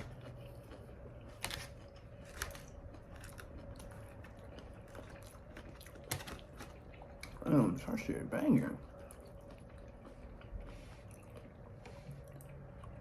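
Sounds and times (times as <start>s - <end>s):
quiet chewing: 0.0s - 7.5s, 8.8s - 13.0s.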